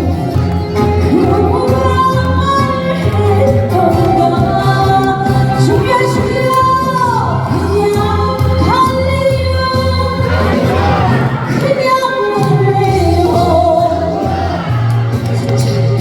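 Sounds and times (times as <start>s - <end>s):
woman singing: 1.0s - 14.8s
bass line: 1.0s - 16.0s.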